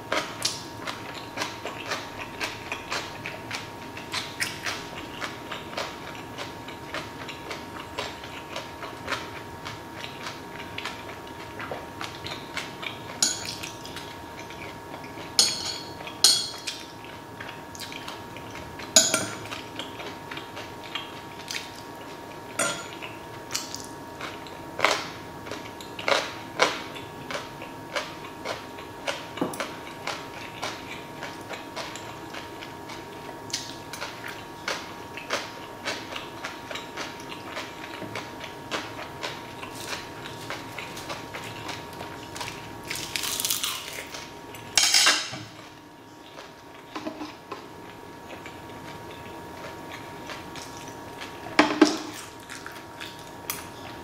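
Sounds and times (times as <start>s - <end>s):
chewing: 0.1s - 15.4s, 16.0s - 44.7s, 45.6s - 54.0s.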